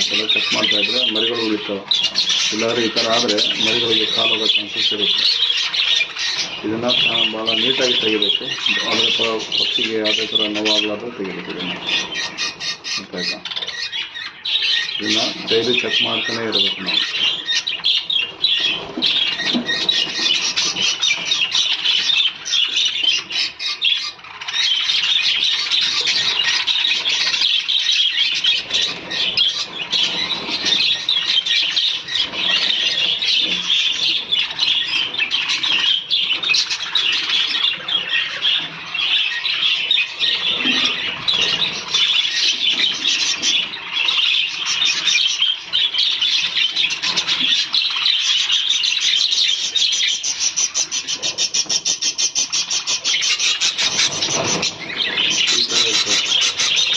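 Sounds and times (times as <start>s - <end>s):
lovebirds chattering and squawking: 0.0s - 56.9s.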